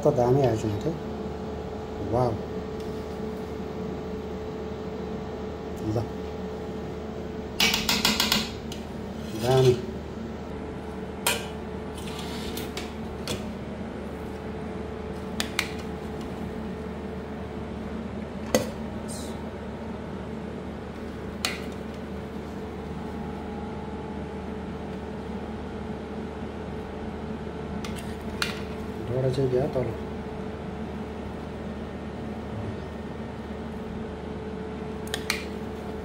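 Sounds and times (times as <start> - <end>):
kitchen hum: 0.0 - 36.0.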